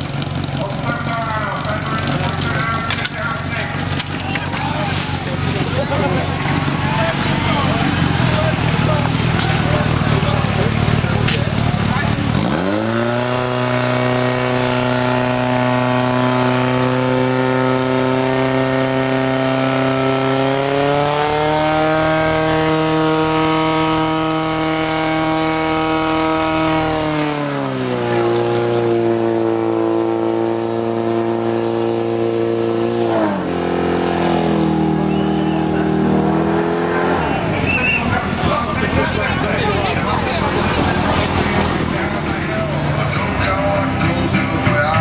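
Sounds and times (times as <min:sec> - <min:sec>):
petrol engine running at high revs: 0:00.0 - 0:45.0.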